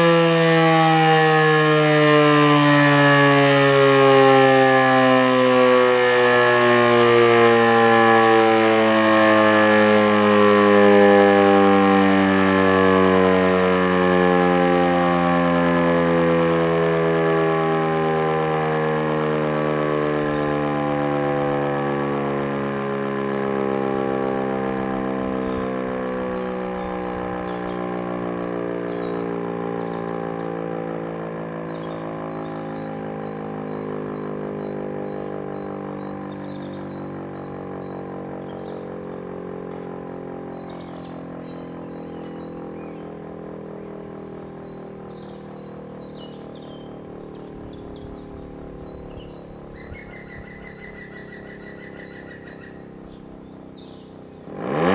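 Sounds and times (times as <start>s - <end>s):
siren winding down: 0.0s - 54.9s.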